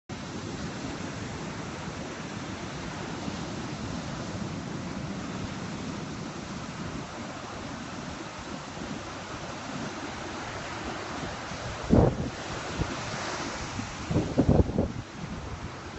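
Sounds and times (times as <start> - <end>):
sea surf rushing: 0.1 - 15.9
wind buffeting the microphone: 0.1 - 15.9.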